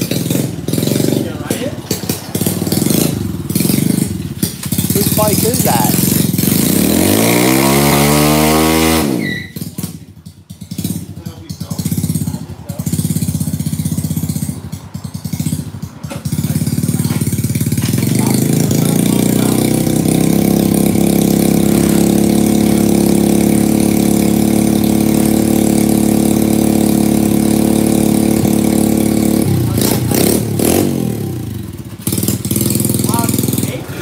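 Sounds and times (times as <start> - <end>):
scooter engine revving: 0.0 - 34.0.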